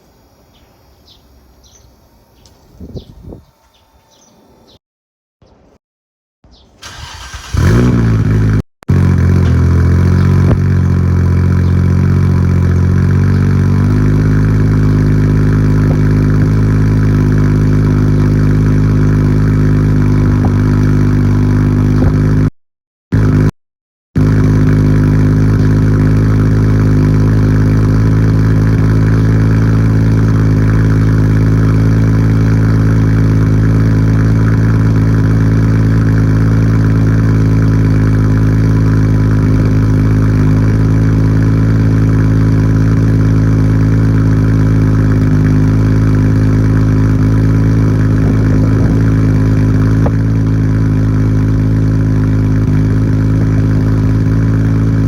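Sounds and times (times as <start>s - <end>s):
car engine idling: 6.8s - 22.5s, 23.2s - 23.5s, 24.2s - 55.0s.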